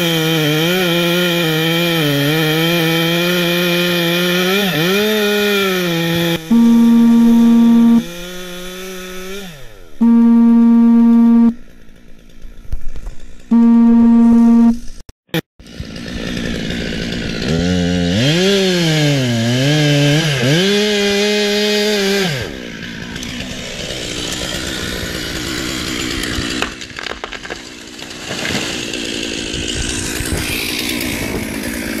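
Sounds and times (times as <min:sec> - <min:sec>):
chainsaw cutting tree: 0:00.0 - 0:14.6, 0:15.6 - 0:32.0.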